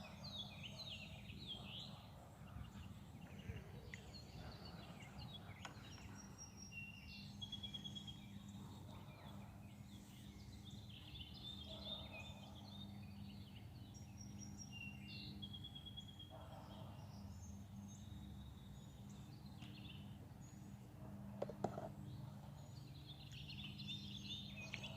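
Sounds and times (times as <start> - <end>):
songbirds singing and chirping: 0.0 - 24.9.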